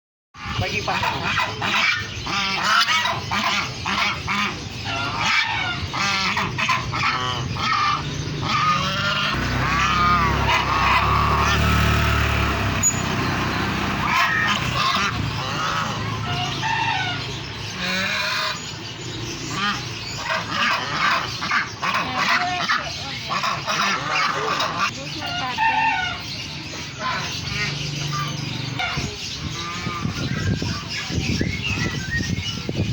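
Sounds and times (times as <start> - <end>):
geese honking: 0.4 - 31.1
chickens and caged birds calling: 0.4 - 32.9.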